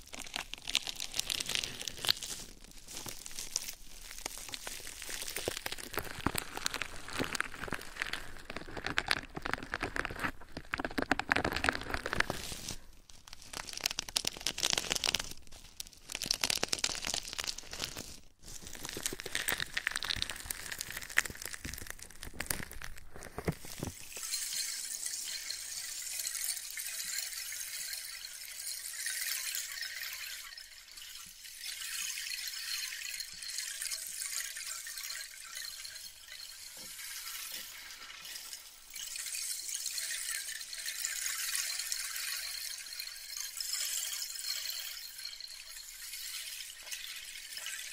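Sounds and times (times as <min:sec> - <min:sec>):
crinkly crackling and rustling: 0:00.0 - 0:27.6, 0:31.0 - 0:47.9.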